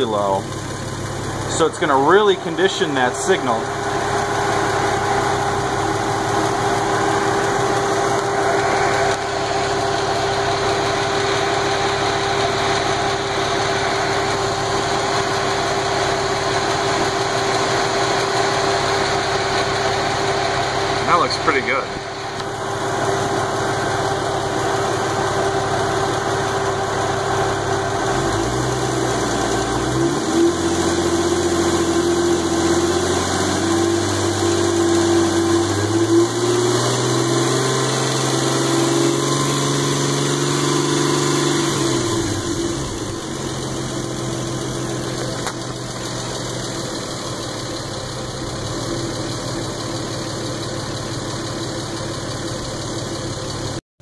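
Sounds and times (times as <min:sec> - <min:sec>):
car engine idling and revving: 0:00.0 - 0:53.8.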